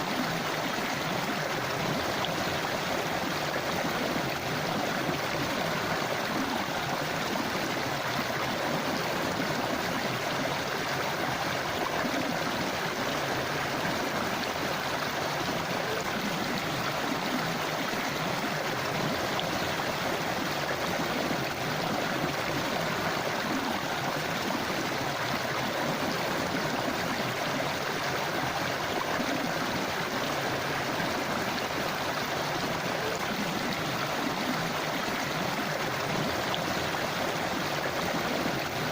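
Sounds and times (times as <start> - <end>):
river burbling over rocks: 0.0 - 38.9.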